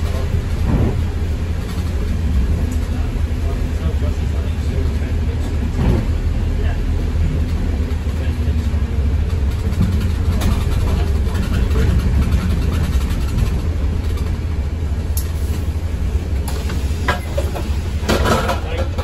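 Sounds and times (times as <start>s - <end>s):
bus diesel engine rumble: 0.0s - 19.0s.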